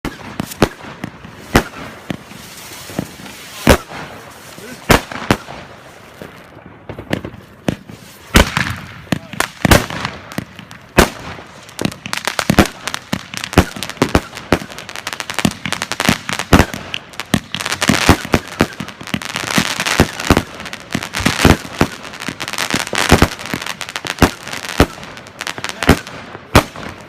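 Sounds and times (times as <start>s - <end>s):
fireworks bangs and pops: 0.0s - 27.0s
fireworks crackling hiss: 0.1s - 27.0s.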